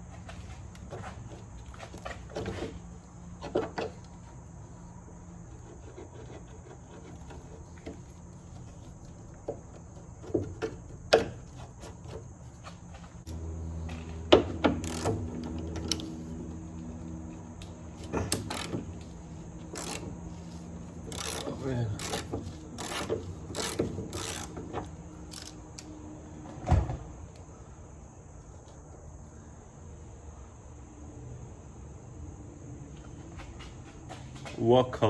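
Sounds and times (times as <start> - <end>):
steady low hum: 0.0 - 34.6.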